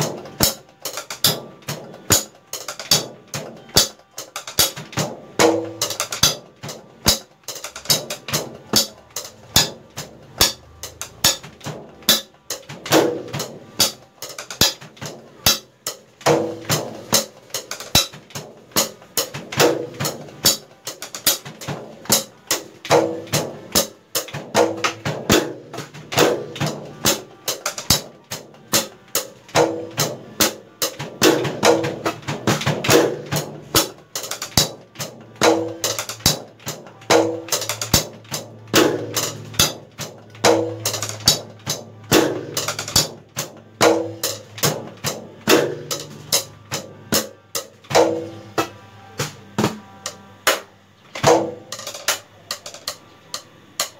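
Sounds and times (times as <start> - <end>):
sticks hitting drum pads: 0.0 - 53.9.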